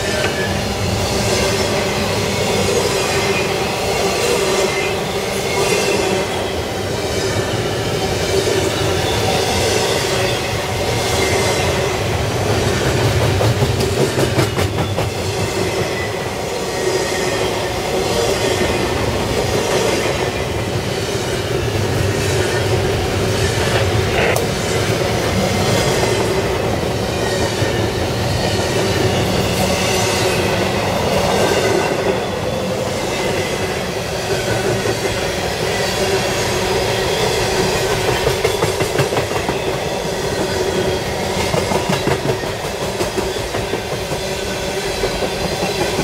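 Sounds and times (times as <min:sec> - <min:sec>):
freight train wheels clattering: 0:00.0 - 0:46.0.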